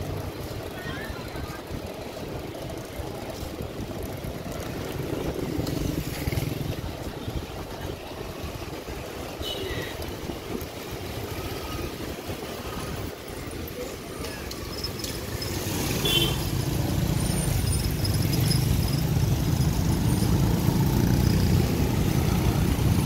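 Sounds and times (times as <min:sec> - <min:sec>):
car engines passing: 0:00.0 - 0:23.0
motorbike engines passing: 0:00.0 - 0:23.0.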